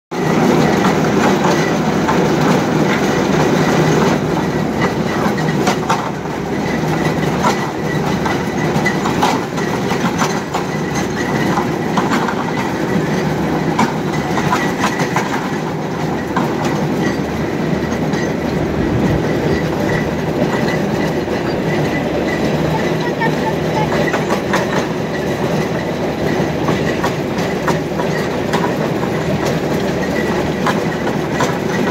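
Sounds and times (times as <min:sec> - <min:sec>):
drilling rig engine running: 0:00.2 - 0:31.9
rig clattering: 0:00.2 - 0:31.9.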